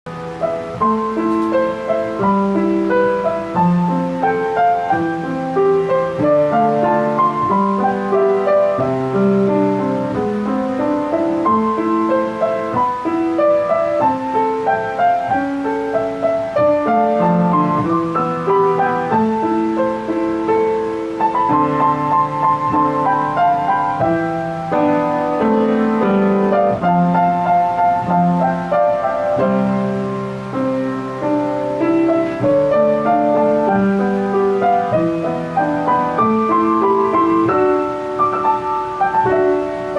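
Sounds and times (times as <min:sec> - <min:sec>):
piano music: 0:00.1 - 0:39.9.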